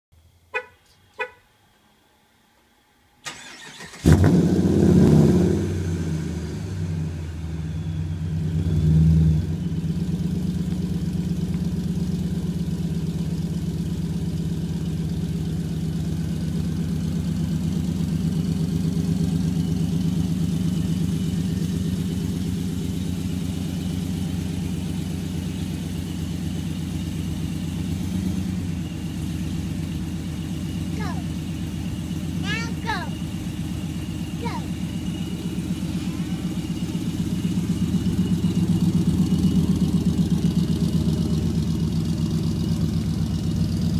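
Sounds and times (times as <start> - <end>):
truck engine starting and idling: 0.2 - 43.9.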